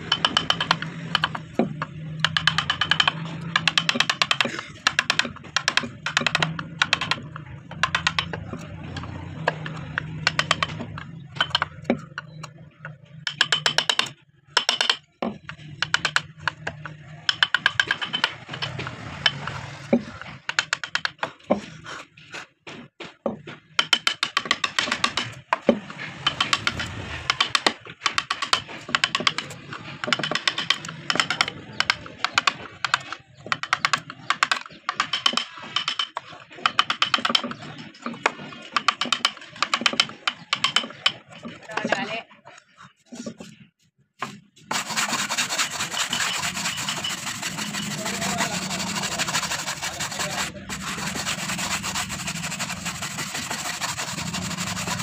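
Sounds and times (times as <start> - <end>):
mallet tapping on chisel: 0.0 - 21.7, 23.7 - 37.5, 38.7 - 41.2, 44.8 - 55.0.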